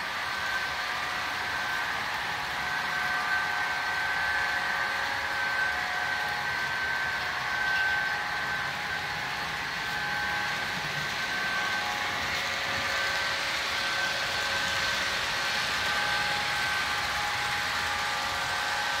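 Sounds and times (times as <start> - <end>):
model train wheels rolling: 0.0 - 19.0
thin steady tones: 0.0 - 19.0.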